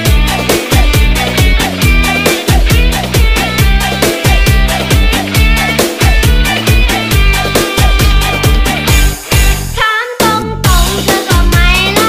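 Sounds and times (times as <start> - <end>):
pop music with singing: 0.0 - 12.0.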